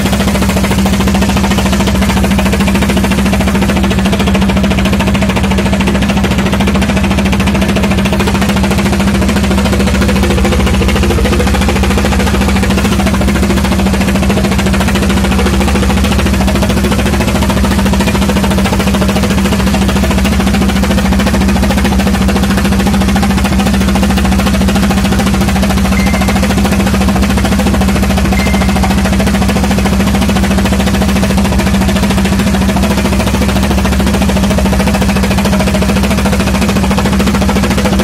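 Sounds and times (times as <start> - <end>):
boat engine droning: 0.0 - 38.0.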